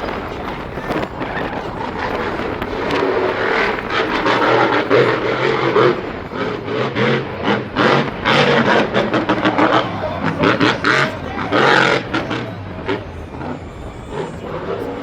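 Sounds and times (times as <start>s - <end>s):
loud vehicle engine running: 0.0s - 15.0s
steady pitched drone: 0.0s - 15.0s.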